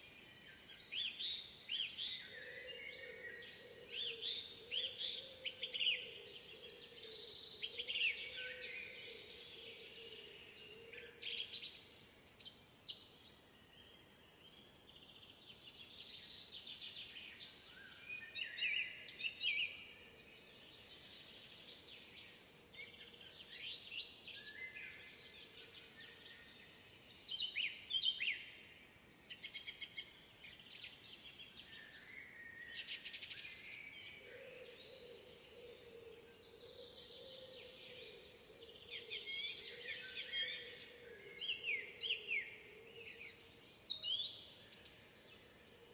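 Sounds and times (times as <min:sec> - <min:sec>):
songbirds singing: 0:00.0 - 0:45.9.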